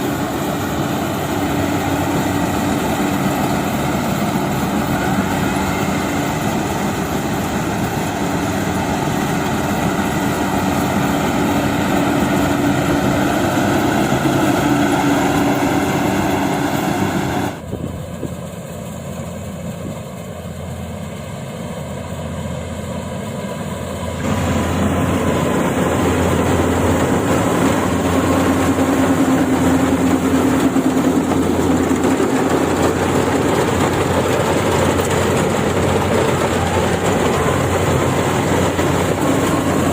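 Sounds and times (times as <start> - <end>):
combine harvester diesel engine running: 0.0 - 39.9.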